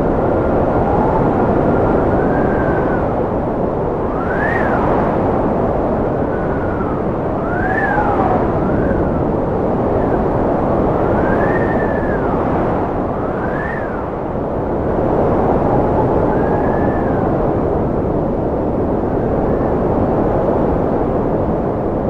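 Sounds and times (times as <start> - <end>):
strong wind whistling: 0.0 - 22.0.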